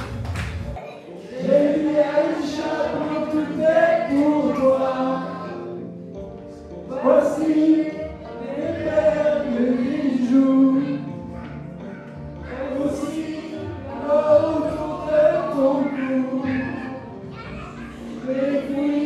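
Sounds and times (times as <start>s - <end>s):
man and woman singing karaoke: 0.9s - 19.0s.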